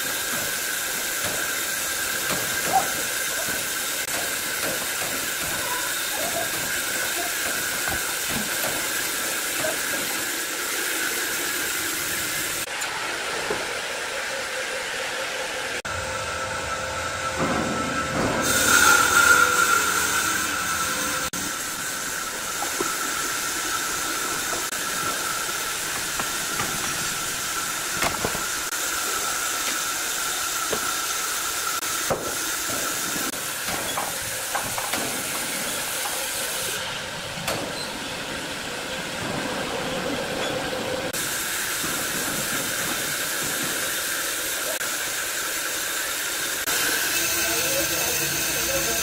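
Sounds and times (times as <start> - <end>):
band saw hissing and whining: 0.0 - 39.3, 41.1 - 49.0.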